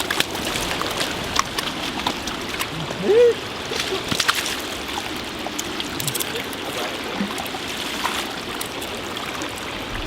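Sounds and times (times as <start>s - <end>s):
small clicks and splashes: 0.0s - 2.8s, 3.7s - 9.6s
rushing flood water: 0.0s - 10.0s.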